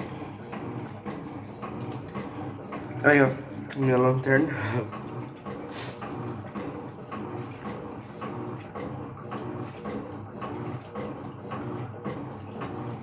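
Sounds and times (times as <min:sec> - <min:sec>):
washing machine motor humming: 0:00.0 - 0:13.0
water sloshing in tub: 0:00.0 - 0:13.0.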